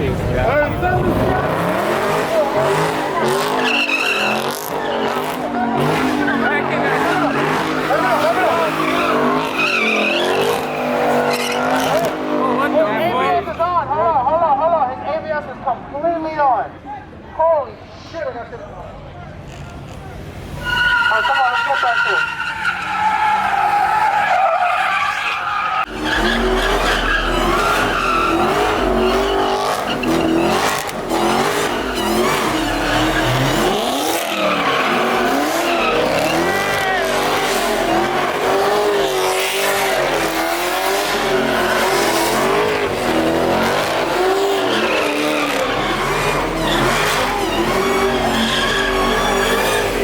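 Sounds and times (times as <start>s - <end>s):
car engine revving: 0.0s - 13.5s, 22.0s - 50.0s
tyres squealing and skidding: 0.0s - 15.4s, 19.4s - 50.0s.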